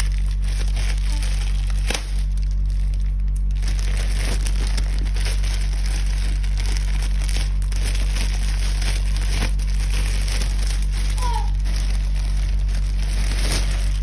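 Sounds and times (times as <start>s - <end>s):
low electrical hum: 0.0s - 14.0s
packaging crinkling and rustling: 0.0s - 14.0s.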